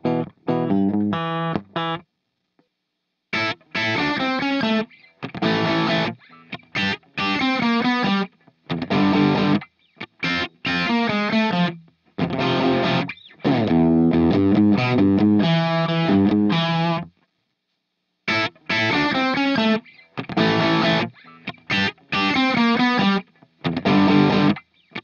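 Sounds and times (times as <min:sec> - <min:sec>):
electric guitar crunch chords: 0:00.0 - 0:02.0, 0:03.4 - 0:17.1, 0:18.3 - 0:25.0.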